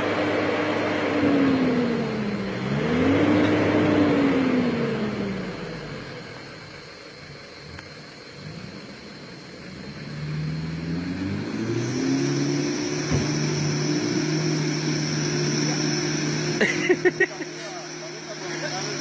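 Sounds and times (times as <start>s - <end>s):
pickup truck engine revving: 0.0s - 19.0s.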